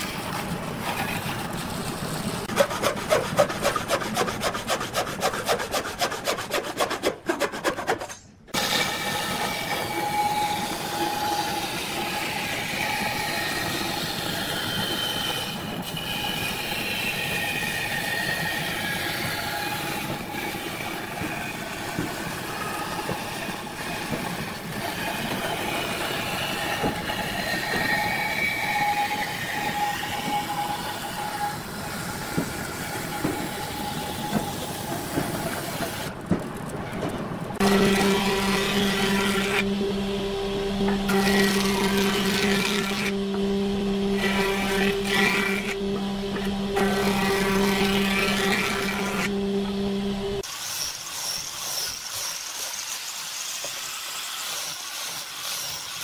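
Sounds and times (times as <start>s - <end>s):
bandsaw cutting wood: 0.0s - 36.1s, 37.6s - 56.0s.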